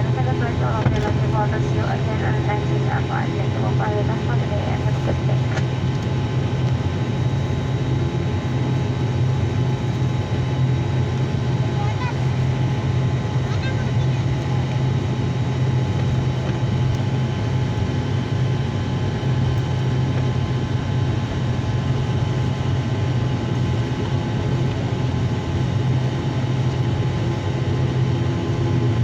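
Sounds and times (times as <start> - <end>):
turboprop engines droning: 0.0 - 29.0.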